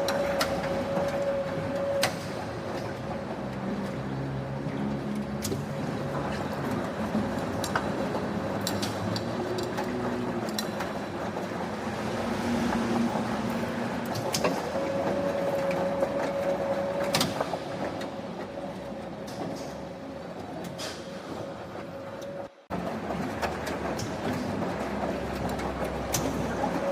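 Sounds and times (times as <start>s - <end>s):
factory machinery humming: 0.0s - 26.9s.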